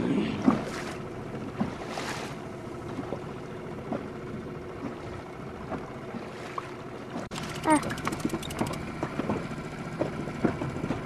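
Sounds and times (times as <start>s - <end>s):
boat engine running: 0.0s - 11.0s
water noise: 0.0s - 11.0s
small knocks on boat: 0.4s - 11.0s.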